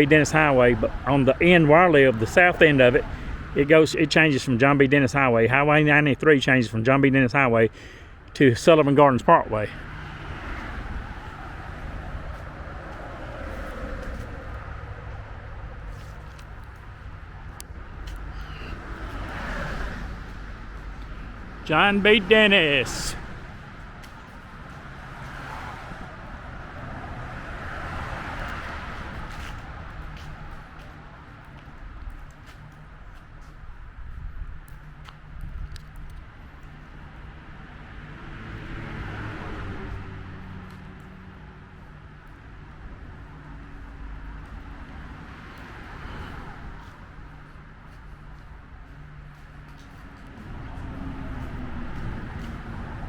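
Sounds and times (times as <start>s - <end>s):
vehicle passing on highway: 0.0s - 5.0s, 7.6s - 53.0s.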